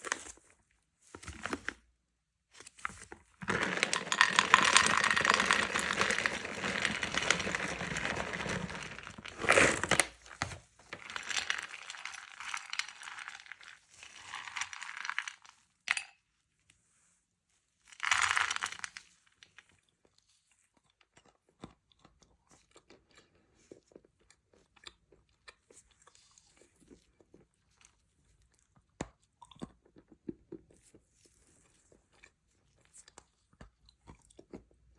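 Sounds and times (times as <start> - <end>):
clay crackling while eaten: 2.6 - 15.8, 17.9 - 34.9.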